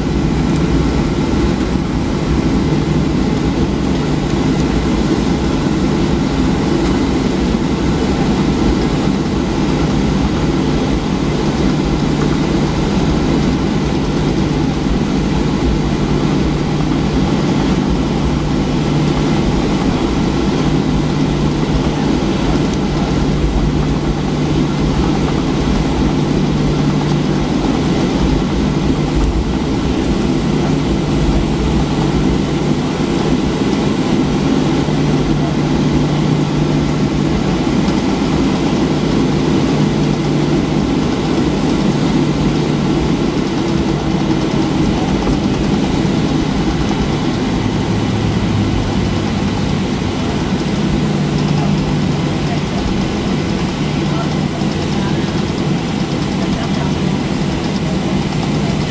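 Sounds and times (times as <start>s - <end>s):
jet engines idling: 0.0s - 58.9s
low hum: 0.0s - 58.9s.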